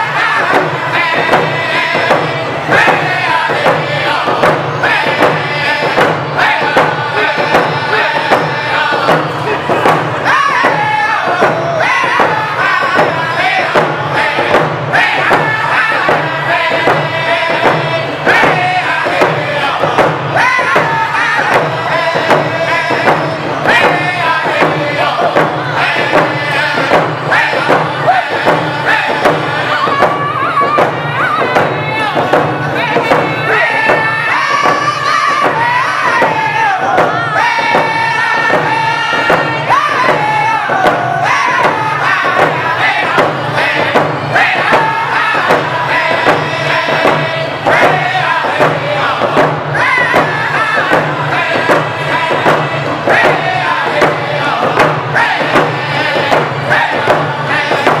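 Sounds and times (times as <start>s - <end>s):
frame drums beaten steadily: 0.0s - 58.0s
men singing in unison: 0.0s - 58.0s.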